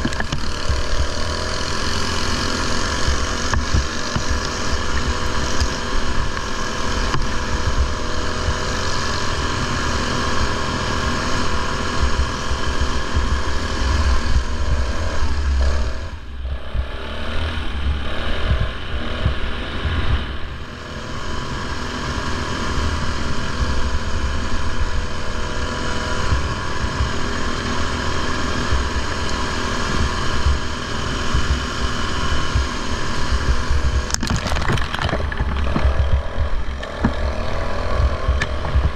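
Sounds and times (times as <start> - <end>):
lawn mower engine running hard: 0.0 - 38.9.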